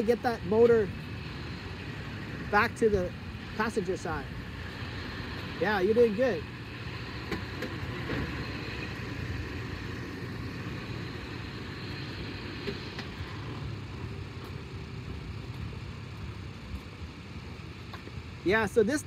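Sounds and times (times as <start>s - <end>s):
car engine running at low revs: 0.0s - 19.0s.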